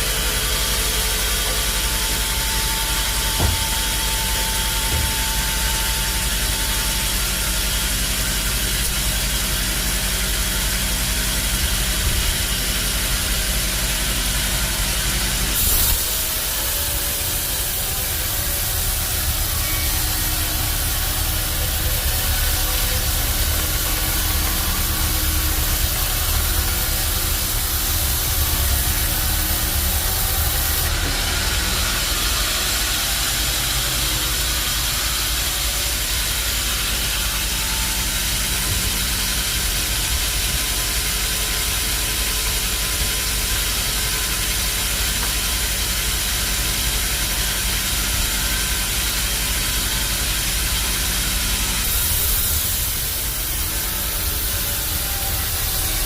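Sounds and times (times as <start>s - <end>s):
bandsaw hum and hiss: 0.0s - 56.0s.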